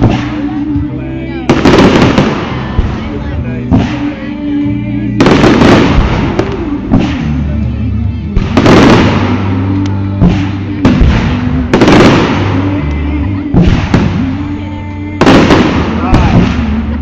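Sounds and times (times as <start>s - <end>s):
fireworks bangs: 0.0s - 0.6s, 1.4s - 4.3s, 5.2s - 7.5s, 8.4s - 14.6s, 15.2s - 17.0s
music playing: 0.0s - 17.0s.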